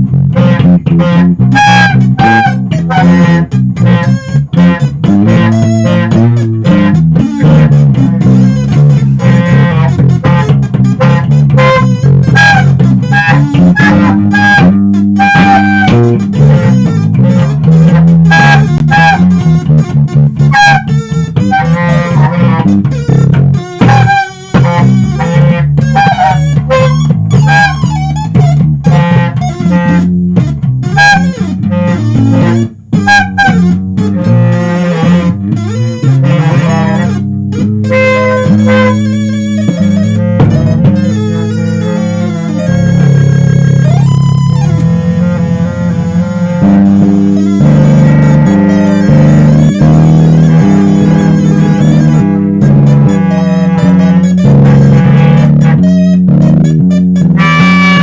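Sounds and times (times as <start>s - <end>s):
electric bass line: 0.0s - 58.0s
guitar plucked notes: 0.0s - 58.0s.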